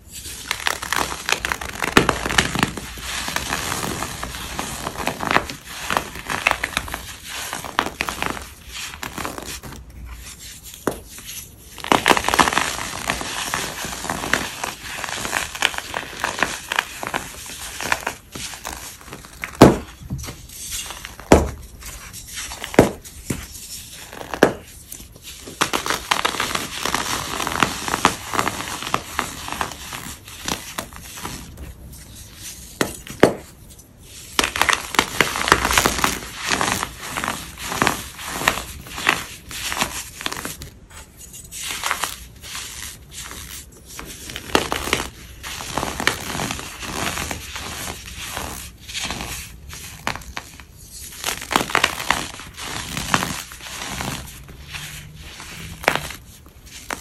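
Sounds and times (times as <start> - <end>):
hardened powder crunching: 0.0 - 57.0.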